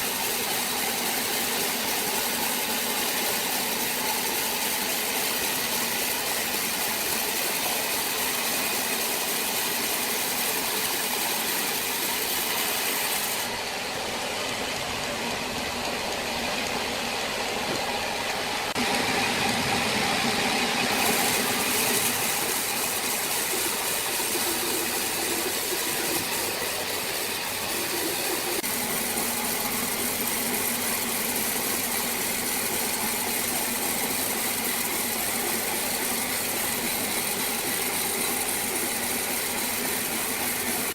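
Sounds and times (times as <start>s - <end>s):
motor-driven wood saw running: 0.0s - 40.9s.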